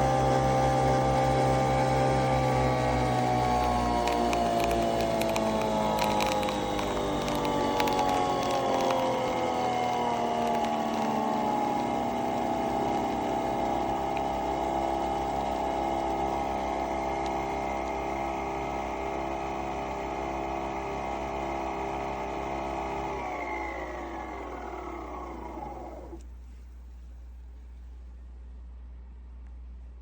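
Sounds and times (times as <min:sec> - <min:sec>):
water pump pulsing: 0:00.0 - 0:26.2
capsule spinning motor whirring: 0:00.0 - 0:26.3.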